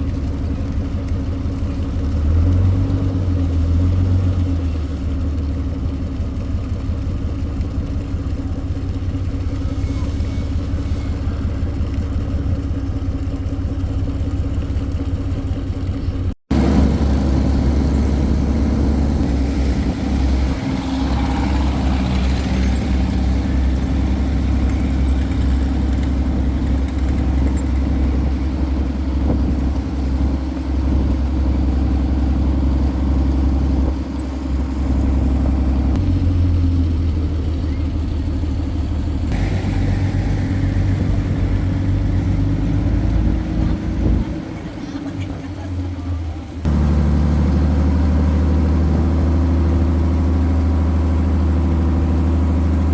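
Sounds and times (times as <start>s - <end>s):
engine humming steadily: 0.0s - 52.9s.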